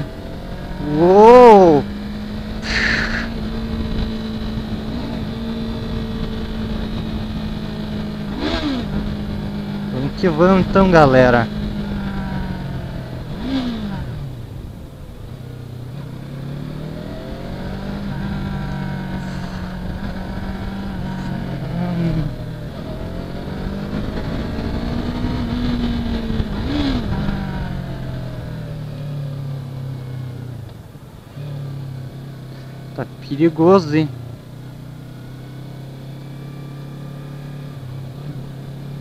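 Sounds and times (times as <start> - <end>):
motorcycle engine revving: 0.0 - 14.7, 15.3 - 39.0.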